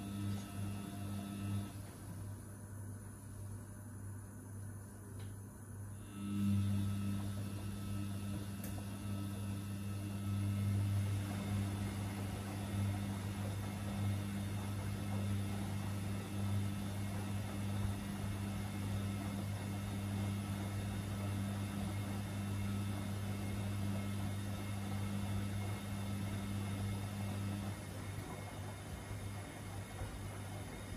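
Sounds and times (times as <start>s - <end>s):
steady motor hum: 0.0s - 30.9s.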